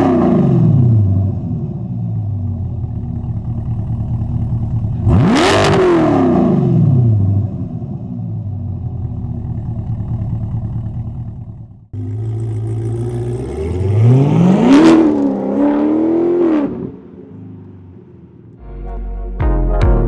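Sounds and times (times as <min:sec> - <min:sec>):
car engine idling and revving: 0:00.0 - 0:18.6.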